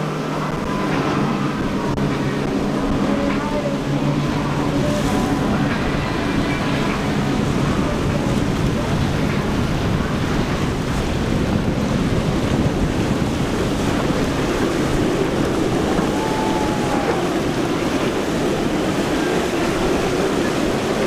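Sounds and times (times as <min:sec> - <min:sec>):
outboard engines droning: 0:00.0 - 0:21.0
rush of wake spray: 0:00.0 - 0:21.0
wind buffeting microphone: 0:00.0 - 0:21.0.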